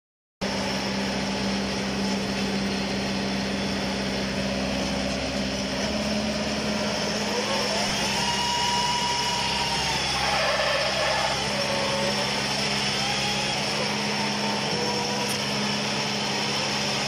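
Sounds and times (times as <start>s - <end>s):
rising whine: 0.4s - 17.0s
tiller engine running under load: 0.4s - 17.0s.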